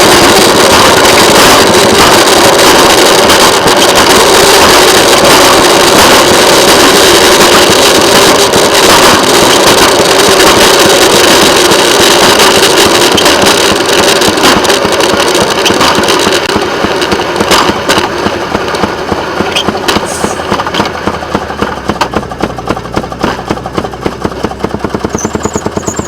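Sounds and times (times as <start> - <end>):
rail motorcar running on rails: 0.0 - 26.0.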